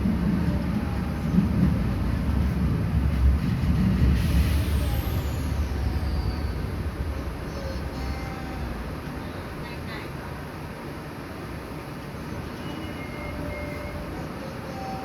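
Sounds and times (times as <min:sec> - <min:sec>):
train wheels rumbling on rail: 0:00.0 - 0:14.7.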